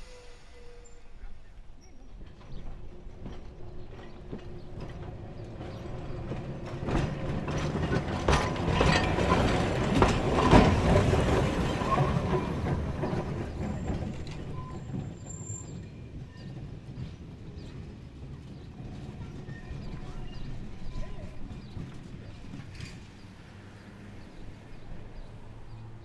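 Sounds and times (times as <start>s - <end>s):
electric tram passing: 0.0s - 26.0s
wheels clacking on rails: 1.6s - 26.0s.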